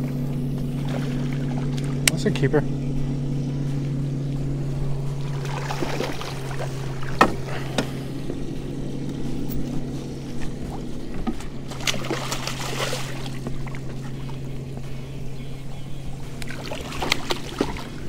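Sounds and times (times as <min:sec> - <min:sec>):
small motor humming: 0:00.0 - 0:18.0.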